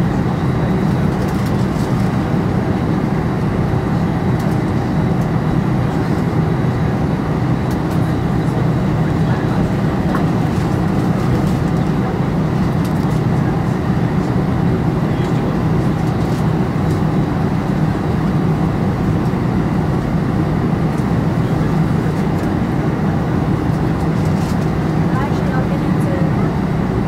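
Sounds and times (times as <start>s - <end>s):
jet engines rumbling in cabin: 0.0s - 27.0s.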